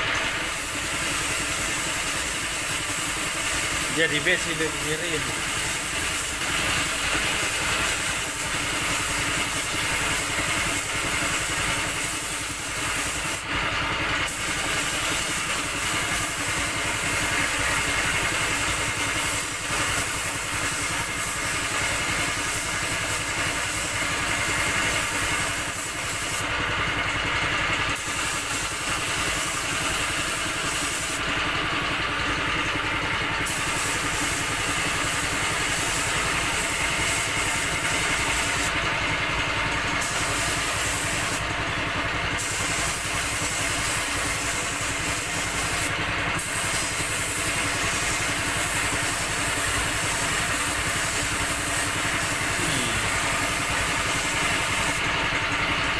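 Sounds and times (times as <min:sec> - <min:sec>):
air compressor running: 0:00.0 - 0:55.9
spray gun hissing: 0:00.2 - 0:13.5, 0:14.2 - 0:26.5, 0:28.0 - 0:31.3, 0:33.4 - 0:38.8, 0:40.0 - 0:41.6, 0:42.3 - 0:55.1.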